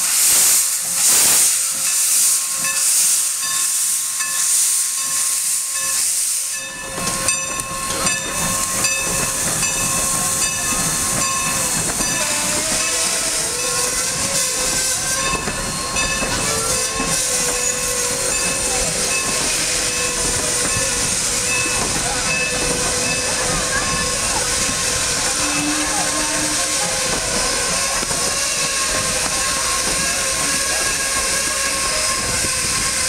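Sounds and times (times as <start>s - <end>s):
steam locomotive hissing steam: 0.0s - 33.0s
train coaches rumbling past: 0.0s - 33.0s
steel wheel squeal: 1.0s - 33.0s.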